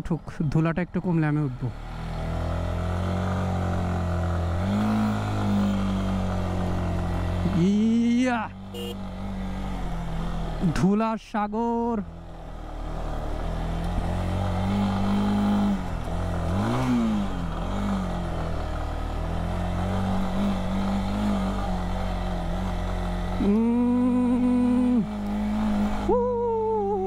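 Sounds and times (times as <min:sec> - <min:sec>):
motorcycle engine revving: 0:01.3 - 0:10.9, 0:11.7 - 0:27.0.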